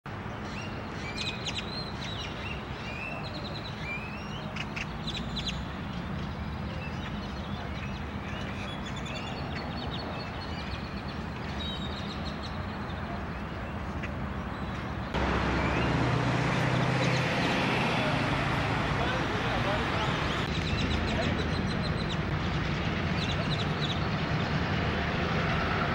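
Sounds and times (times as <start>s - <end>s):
birds chirping: 0.2s - 25.1s.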